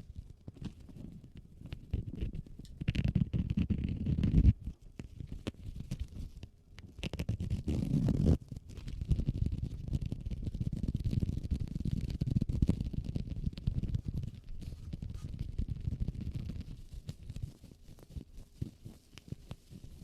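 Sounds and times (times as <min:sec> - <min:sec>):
case rubbed and scratched: 0:00.5 - 0:20.0.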